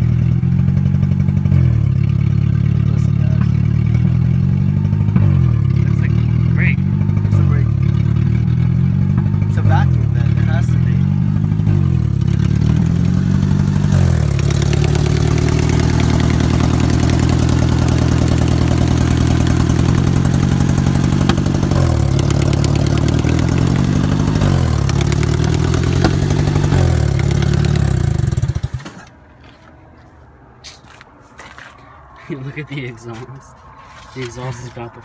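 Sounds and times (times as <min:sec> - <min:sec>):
rapid engine ticking: 0:00.0 - 0:29.1
car engine idling unevenly: 0:00.0 - 0:30.9.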